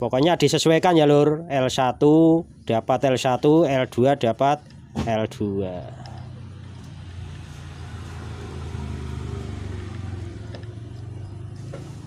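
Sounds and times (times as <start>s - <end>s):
engine rumbling: 2.0s - 12.0s.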